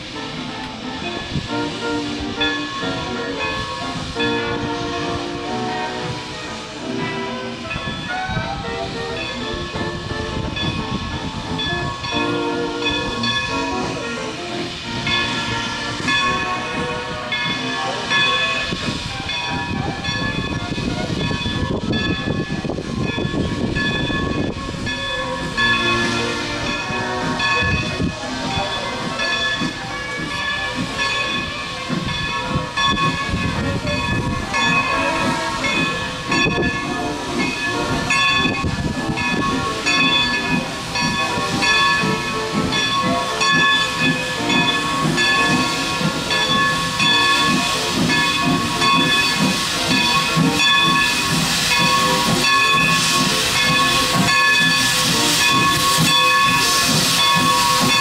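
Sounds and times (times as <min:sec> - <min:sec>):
steam locomotive exhaust beating: 0:00.0 - 0:58.0.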